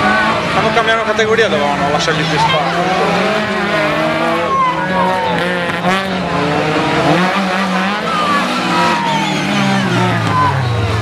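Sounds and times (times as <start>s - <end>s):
rally car engines revving: 0.0s - 11.0s.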